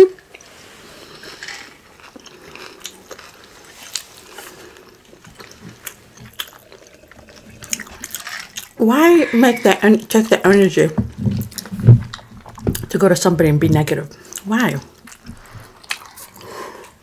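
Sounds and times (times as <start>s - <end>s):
chewing food: 0.0s - 17.0s.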